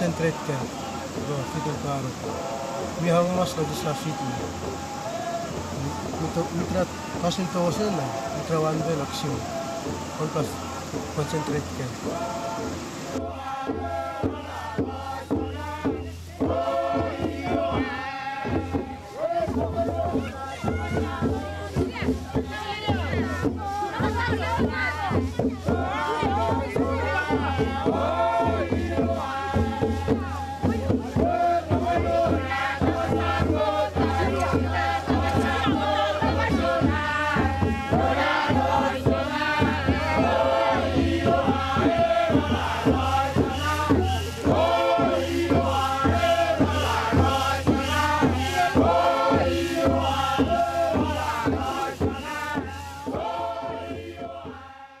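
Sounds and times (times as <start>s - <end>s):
group chanting: 0.0s - 55.0s
steady drumbeat: 0.0s - 55.0s.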